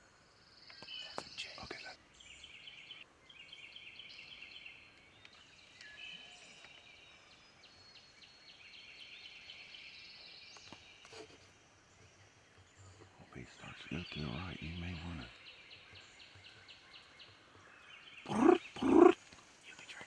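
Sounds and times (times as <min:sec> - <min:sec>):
distant songbirds trilling: 0:00.0 - 0:20.0.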